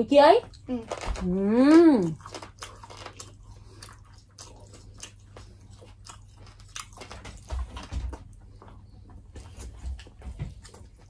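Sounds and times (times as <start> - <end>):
crunchy chewing: 0.4 - 11.0.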